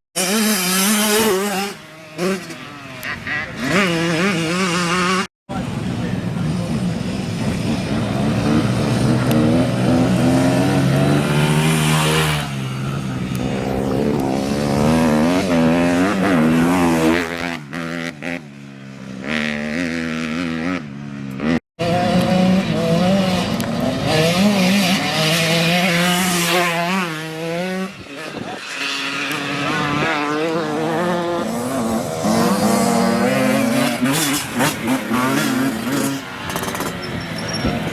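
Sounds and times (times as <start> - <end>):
dirt bike engines revving: 0.2 - 37.9.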